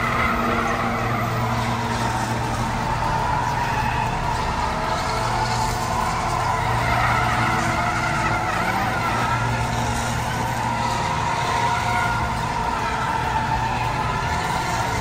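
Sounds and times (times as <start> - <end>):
engines running: 0.0 - 15.0
tyres squealing: 0.0 - 15.0.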